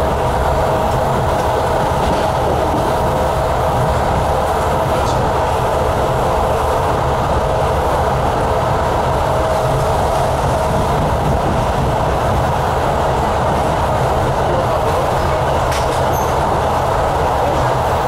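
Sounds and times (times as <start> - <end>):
constant hum: 0.0 - 18.0
wheels rumbling on rail: 0.0 - 18.0.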